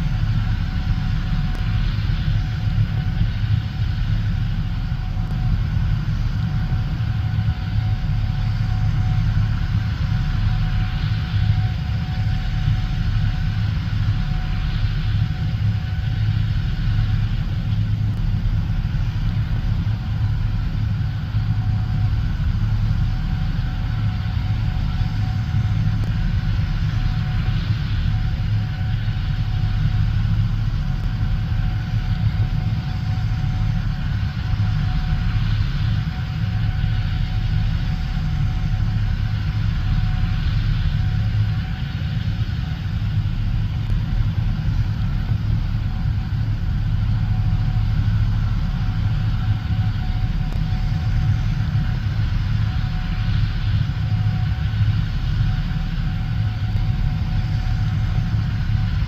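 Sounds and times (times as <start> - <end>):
combine harvester engine drone: 0.0 - 59.0
faint steady whine: 0.0 - 59.0.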